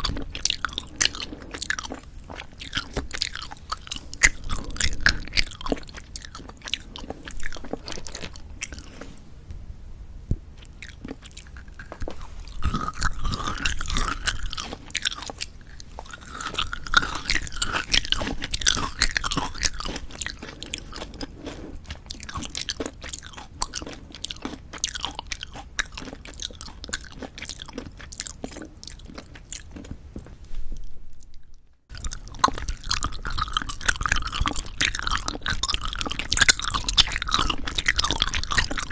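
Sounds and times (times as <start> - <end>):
chewing gummy candy: 0.0 - 9.0, 10.6 - 30.4, 31.2 - 38.9.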